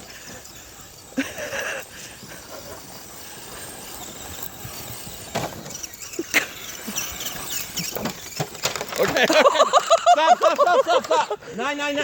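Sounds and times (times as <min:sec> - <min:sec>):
toy car electric motor whining: 0:00.0 - 0:11.4.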